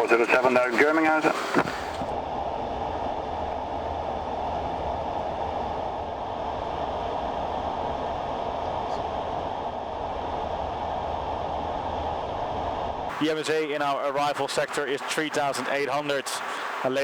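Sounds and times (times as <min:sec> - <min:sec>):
aircraft cockpit roar: 0:00.0 - 0:16.8.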